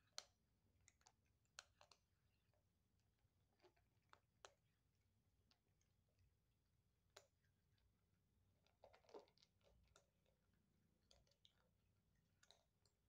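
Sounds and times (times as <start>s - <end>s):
kittens crunching dry kibble: 0.0s - 13.0s.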